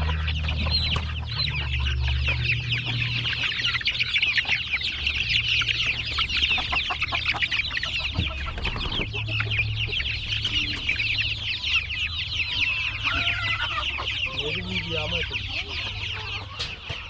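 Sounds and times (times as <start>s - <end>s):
chicks peeping and chirping: 0.0s - 17.0s.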